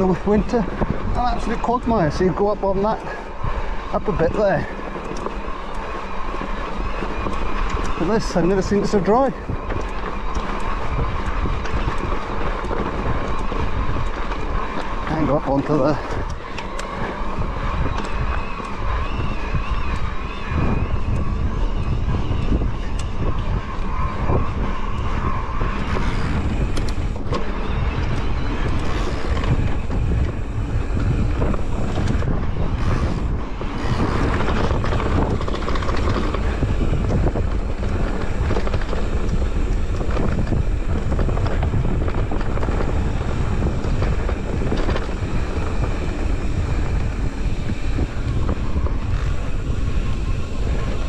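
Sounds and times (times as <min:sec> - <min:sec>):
bike tyres rolling over track: 0:00.0 - 0:51.0
wind rumble on microphone: 0:00.0 - 0:51.0.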